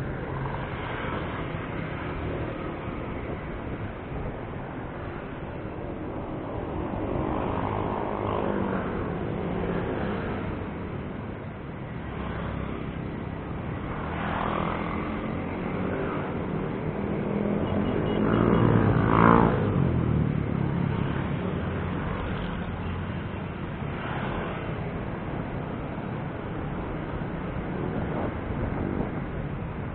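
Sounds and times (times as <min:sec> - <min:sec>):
motorcycles and cars passing: 0:00.0 - 0:29.9.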